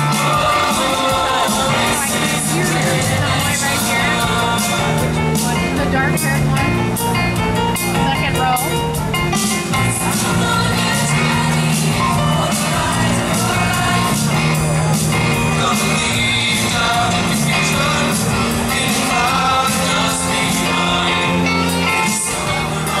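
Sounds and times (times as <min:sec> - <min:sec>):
choir singing: 0:00.0 - 0:05.5, 0:09.6 - 0:23.0
pop-rock instrumental music: 0:00.0 - 0:23.0.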